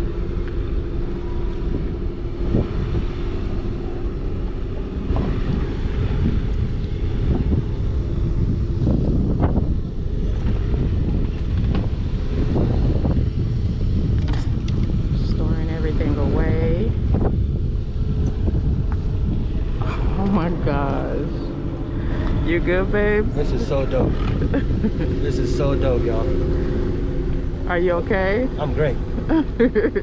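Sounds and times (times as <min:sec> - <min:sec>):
boat engine rumbling: 0:00.0 - 0:30.0
wind buffeting microphone: 0:00.0 - 0:30.0.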